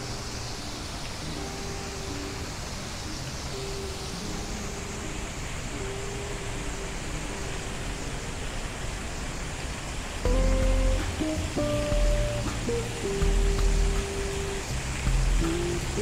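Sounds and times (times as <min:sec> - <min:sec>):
faint hums: 0:00.0 - 0:09.1, 0:10.2 - 0:16.0
city ambience hiss: 0:00.0 - 0:16.0.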